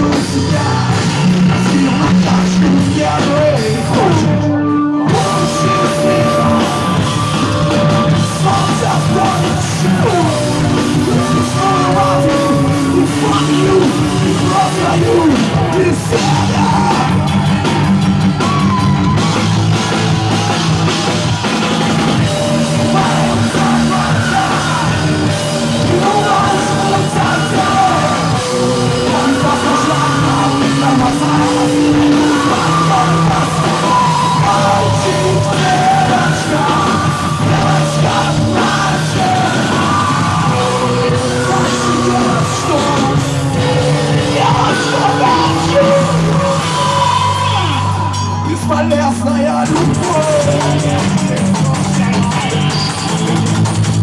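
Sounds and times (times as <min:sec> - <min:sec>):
rock band playing live: 0:00.0 - 0:54.0
yelled vocals: 0:00.0 - 0:54.0.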